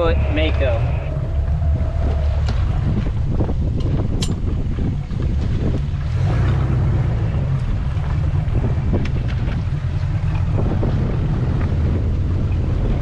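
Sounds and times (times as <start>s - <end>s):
boat engine drone: 0.0s - 13.0s
water splashing against hull: 0.0s - 13.0s
wind noise on microphone: 0.0s - 13.0s.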